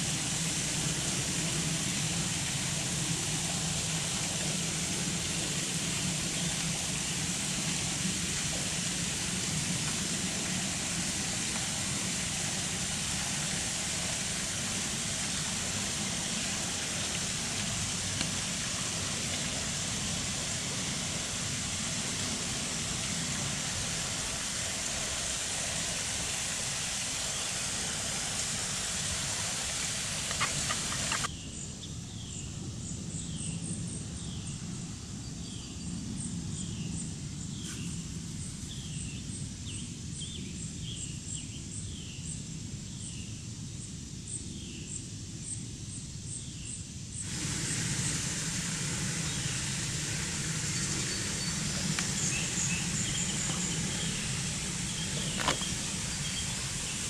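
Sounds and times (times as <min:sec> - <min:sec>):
outdoor hiss with low hum: 0:00.0 - 0:57.0
insects chirping: 0:01.2 - 0:57.0.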